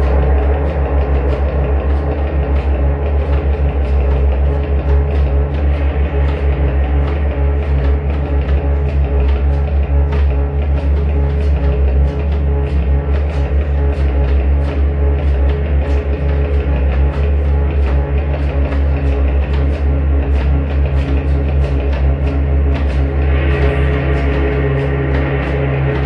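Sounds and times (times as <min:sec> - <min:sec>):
guitar: 0:00.0 - 0:26.0
heavy low bass: 0:00.0 - 0:26.0.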